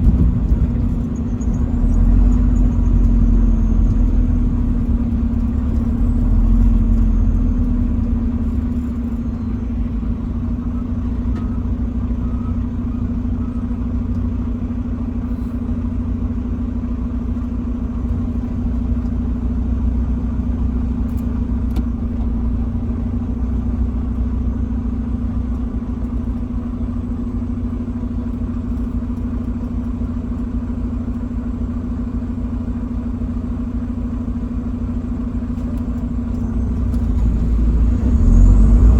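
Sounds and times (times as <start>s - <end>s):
road rumble: 0.0s - 38.9s
truck engine drone: 0.0s - 38.9s.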